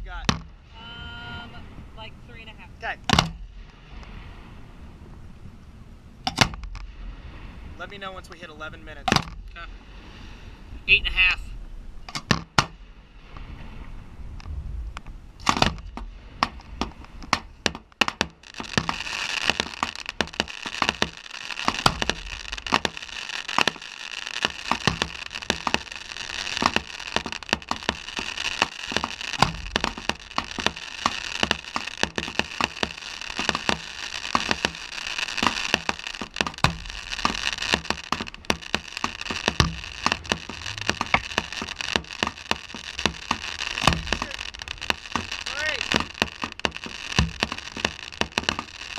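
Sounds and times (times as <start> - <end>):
fireworks banging and crackling: 0.0 - 4.3, 6.2 - 9.6, 12.0 - 48.9.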